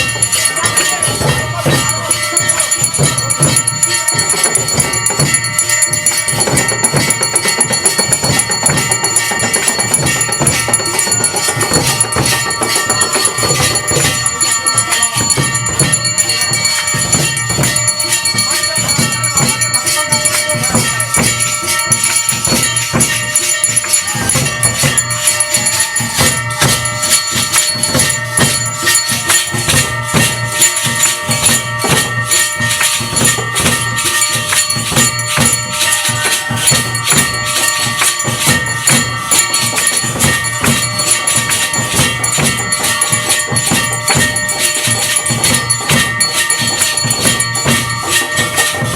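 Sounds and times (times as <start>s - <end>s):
bells and cymbals clattering: 0.0s - 48.9s
ringing metallic tones: 0.0s - 48.9s.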